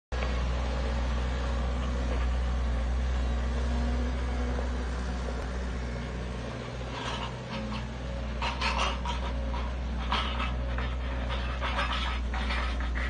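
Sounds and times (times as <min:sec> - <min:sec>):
diesel engine droning: 0:00.2 - 0:13.0.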